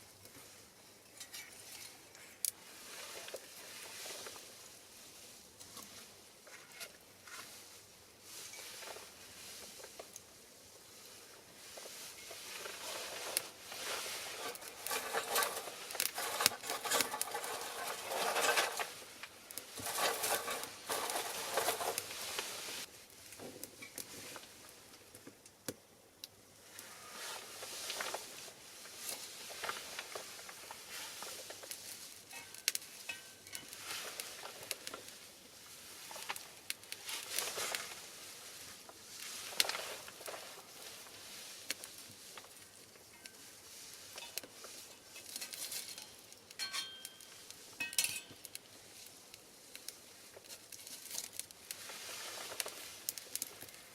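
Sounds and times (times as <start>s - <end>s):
fire crackling and popping: 0.1s - 53.9s.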